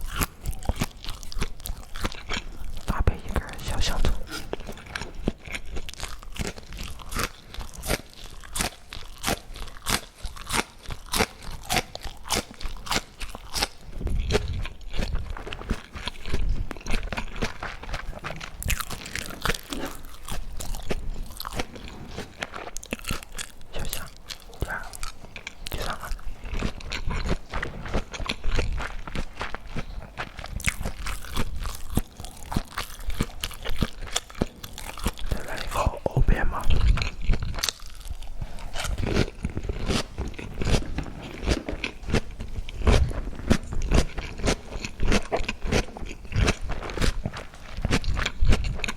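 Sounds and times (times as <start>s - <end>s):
crunchy bites and chewing: 0.0s - 48.9s.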